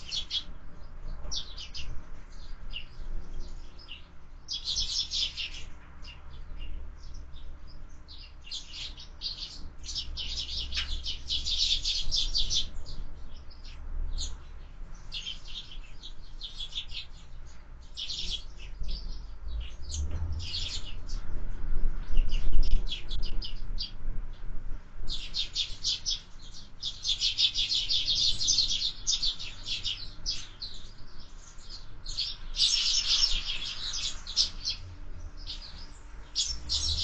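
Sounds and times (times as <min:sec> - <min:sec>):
sparrows chirping: 0:00.0 - 0:37.0
wind rumble on microphone: 0:00.0 - 0:37.0.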